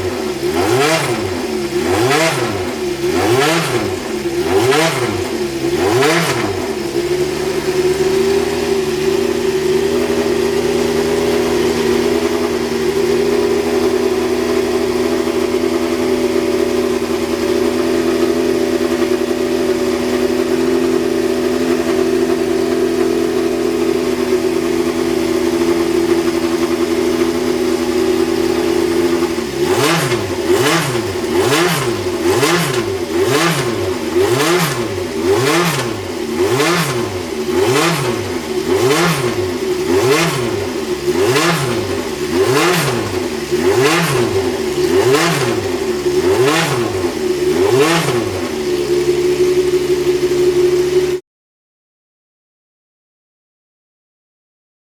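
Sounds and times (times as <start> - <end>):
racing car engine revving: 0.0 - 50.2.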